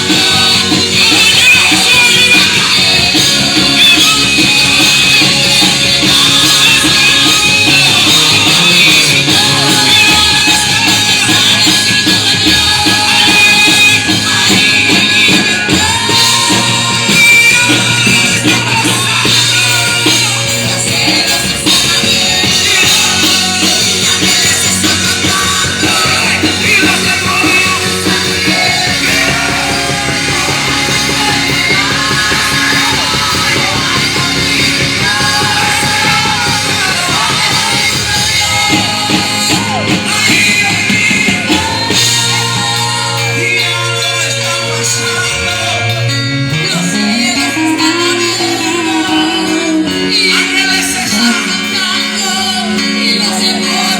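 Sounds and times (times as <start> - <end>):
drum kit: 0.0 - 53.9
live worship band music: 0.0 - 53.9
people singing: 0.0 - 53.9.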